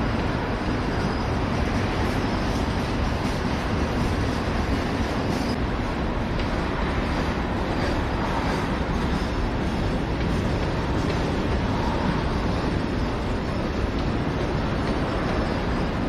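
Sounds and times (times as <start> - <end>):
train rolling along track: 0.0 - 16.0.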